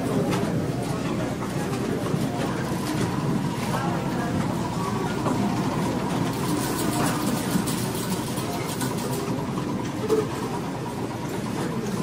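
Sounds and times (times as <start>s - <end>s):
crowd babble: 0.0s - 12.0s.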